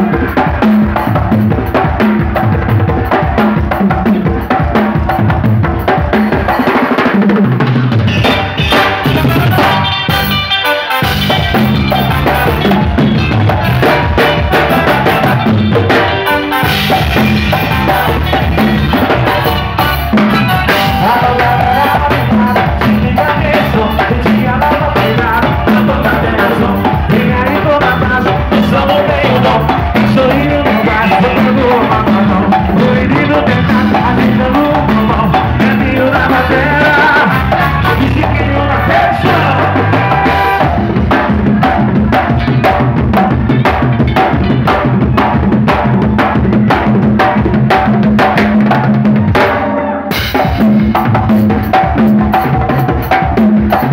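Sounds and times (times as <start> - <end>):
drum kit and congas: 0.0 - 53.9
live band playing: 0.0 - 53.9.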